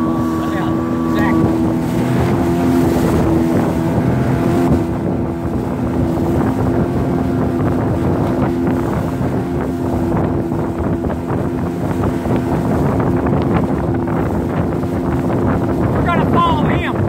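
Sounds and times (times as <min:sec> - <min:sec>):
motorboat engine running: 0:00.0 - 0:17.0
water rushing past hull: 0:00.0 - 0:17.0
wind buffeting microphone: 0:00.0 - 0:17.0.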